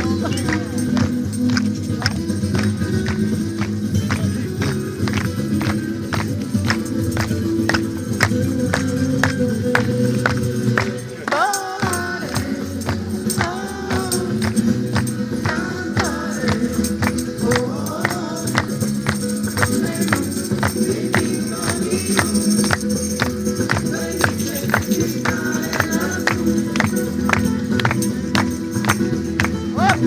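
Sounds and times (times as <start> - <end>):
tambourine-like jingle: 0.0 - 30.0
voices singing: 0.0 - 30.0.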